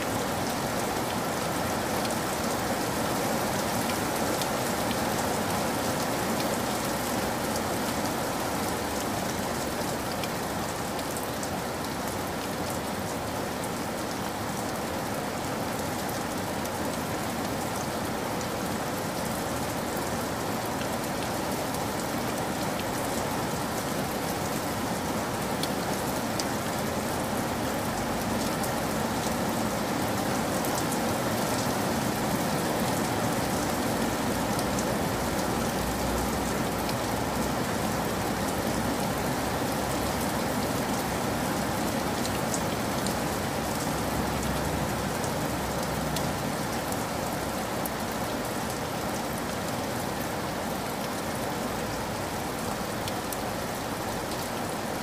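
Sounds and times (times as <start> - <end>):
steady rain hiss: 0.0 - 55.0
faint rain ticks: 0.1 - 54.8.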